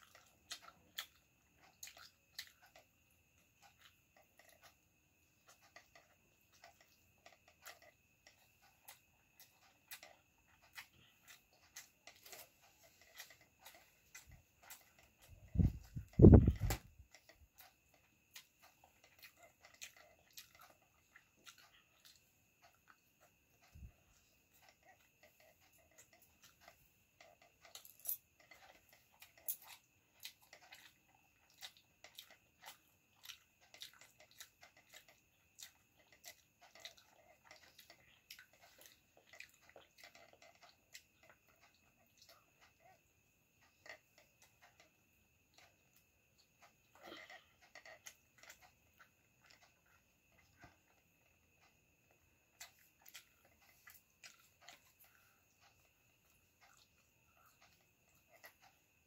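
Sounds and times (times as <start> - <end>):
child chewing with mouth clicks: 0.0 - 59.0.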